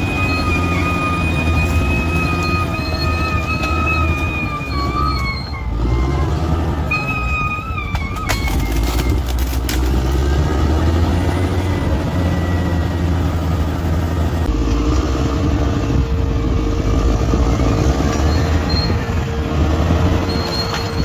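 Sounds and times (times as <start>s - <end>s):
bulldozer diesel engine humming: 0.0s - 21.0s.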